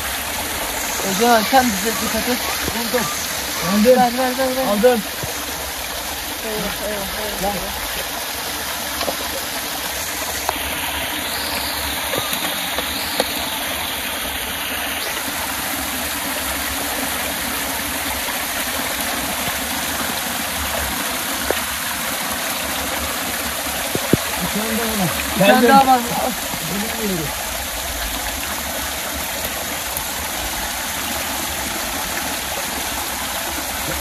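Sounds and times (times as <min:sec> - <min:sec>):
water pouring and splashing: 0:00.0 - 0:34.0.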